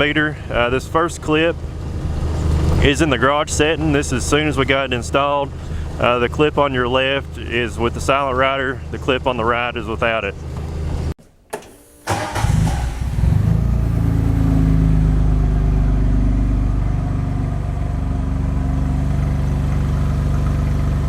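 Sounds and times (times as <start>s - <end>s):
utility vehicle engine idling: 0.0s - 11.1s, 12.0s - 21.0s.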